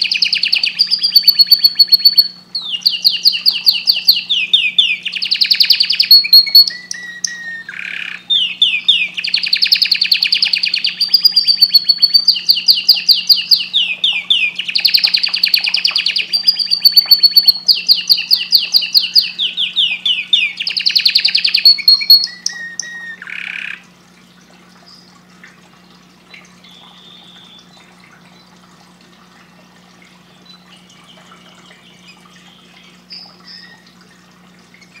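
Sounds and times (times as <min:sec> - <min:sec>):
canary singing trills: 0:00.0 - 0:23.9, 0:24.8 - 0:25.2, 0:26.3 - 0:28.6, 0:30.2 - 0:34.0, 0:34.8 - 0:35.0.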